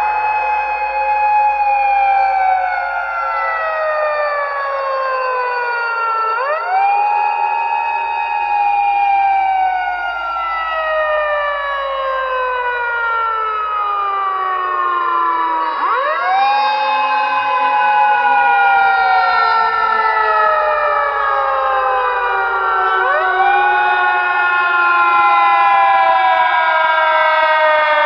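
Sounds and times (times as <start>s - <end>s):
emergency siren wailing: 0.0s - 28.0s.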